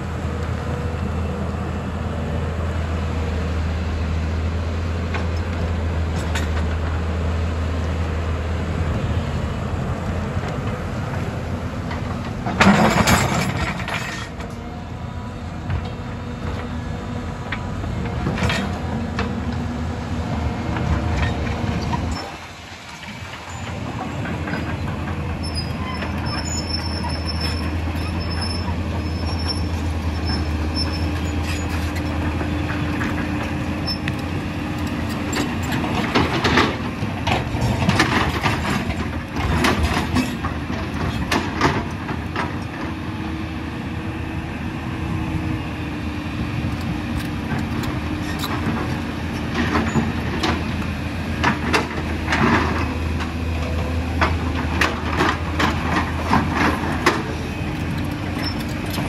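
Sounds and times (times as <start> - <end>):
diesel excavator engines droning: 0.0 - 59.0.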